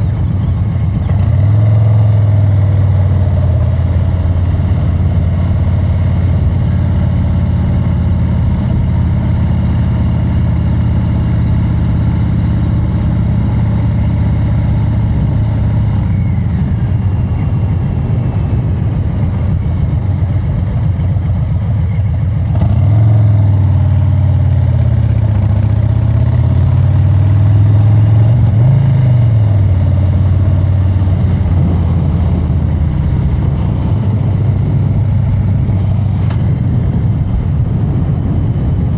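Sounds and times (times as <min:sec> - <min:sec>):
motorcycle exhaust note: 0:00.0 - 0:38.9.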